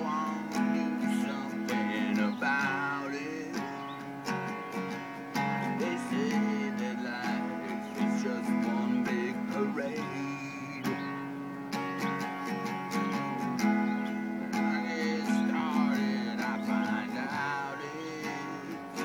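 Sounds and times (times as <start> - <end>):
strummed guitar music: 0.0 - 19.0.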